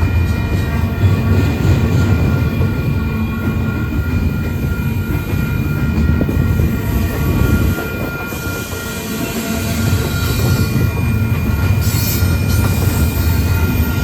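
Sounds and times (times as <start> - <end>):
freight train rumbling on rails: 0.0 - 14.0.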